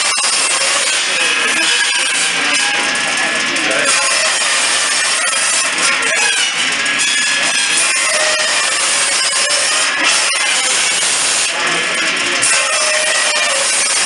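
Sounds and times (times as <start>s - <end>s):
circular saw cutting wood: 0.0s - 14.0s
voices: 0.0s - 14.0s.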